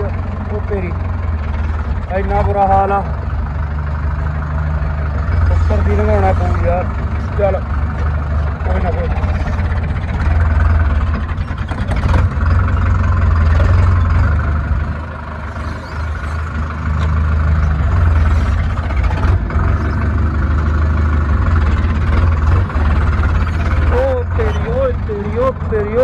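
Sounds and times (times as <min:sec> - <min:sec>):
diesel tractor engine humming: 0:00.0 - 0:26.0.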